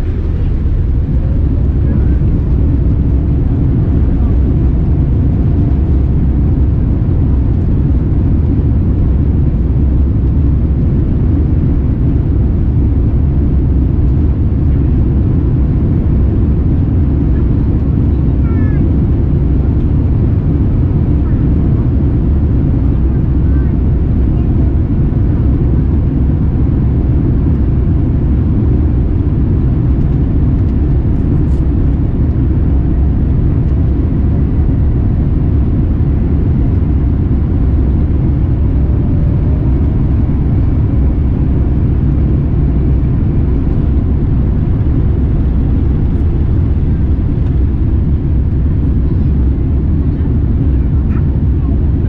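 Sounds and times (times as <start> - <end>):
airliner cabin engine rumble: 0.0 - 52.0.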